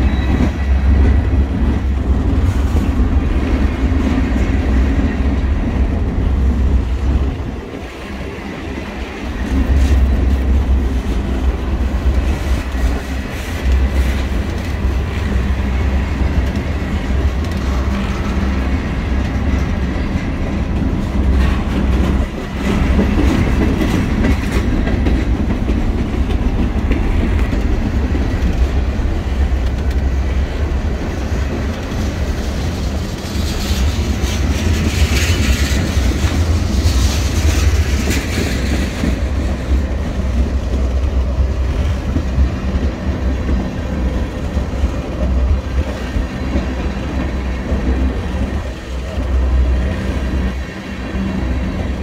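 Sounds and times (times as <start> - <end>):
clickety-clack over rail joints: 0.0 - 52.0
train wheels rumbling on rail: 0.0 - 52.0.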